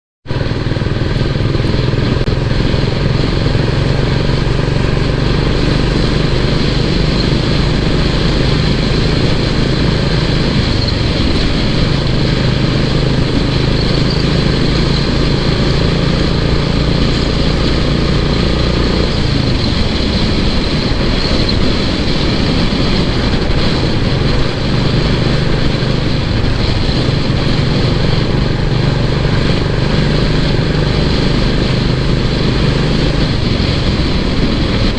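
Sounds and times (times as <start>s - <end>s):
motorcycle engine thumping: 0.2s - 34.9s
wind and road noise: 0.2s - 34.9s.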